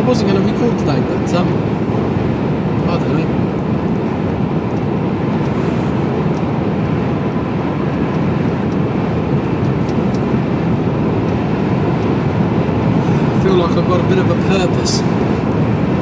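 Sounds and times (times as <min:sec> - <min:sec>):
road noise inside cab: 0:00.0 - 0:16.0
truck engine: 0:00.0 - 0:16.0.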